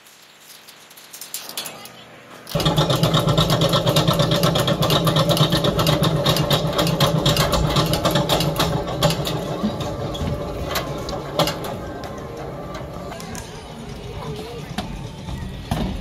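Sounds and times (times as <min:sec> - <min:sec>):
engine running with rattling clatter: 0:02.4 - 0:16.0.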